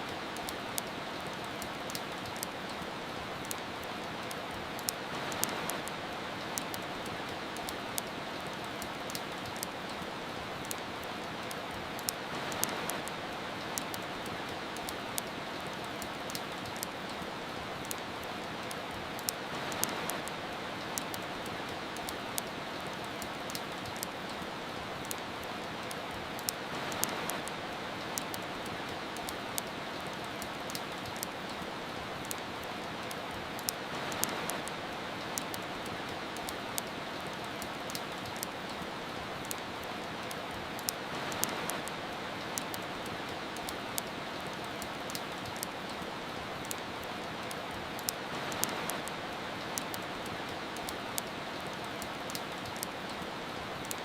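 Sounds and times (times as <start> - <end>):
rain hiss: 0.0 - 54.0
wood fire crackling: 0.0 - 54.0.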